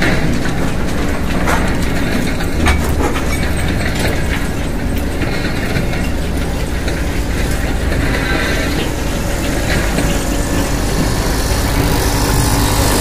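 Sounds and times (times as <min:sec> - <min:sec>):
machinery low rumble: 0:00.0 - 0:13.0.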